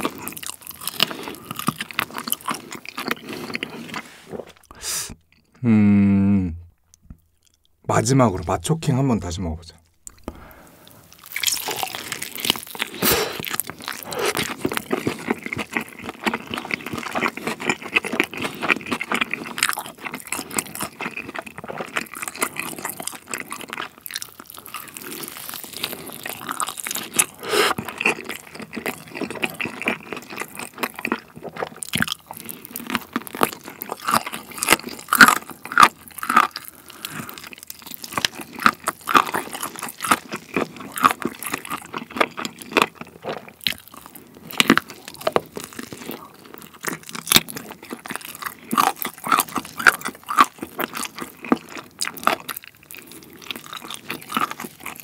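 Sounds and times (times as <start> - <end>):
crunching of fried chicken: 0.0 - 4.8, 10.1 - 55.0
wet chewing: 0.0 - 5.5, 10.0 - 55.0.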